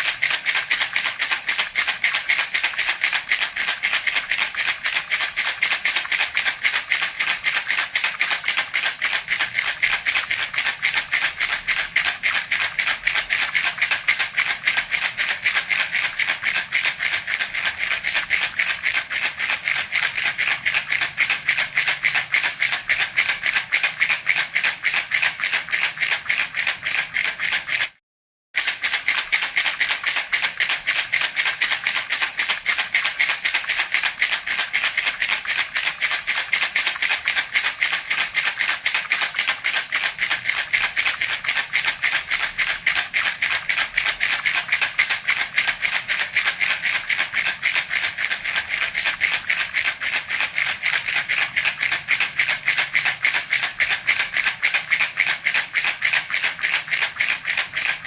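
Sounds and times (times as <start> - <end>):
toy rattle shaken quickly: 0.0 - 28.0, 28.6 - 58.0.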